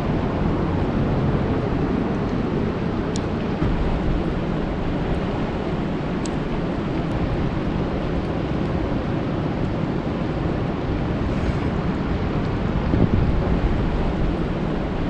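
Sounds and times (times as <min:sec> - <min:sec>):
rain falling on a lake: 0:00.0 - 0:15.0.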